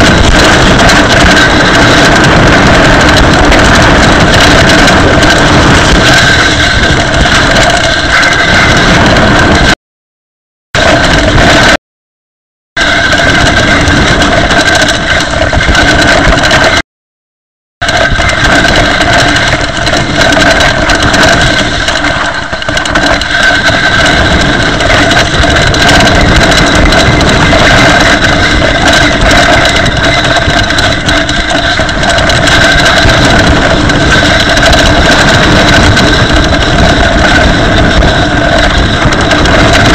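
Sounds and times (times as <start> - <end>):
grit grinding in disc brakes: 0.0 - 9.8, 10.8 - 11.8, 12.8 - 16.8, 17.8 - 39.9
mountain bike grinding and rattling: 0.0 - 9.8, 10.8 - 11.8, 12.8 - 16.8, 17.8 - 39.9.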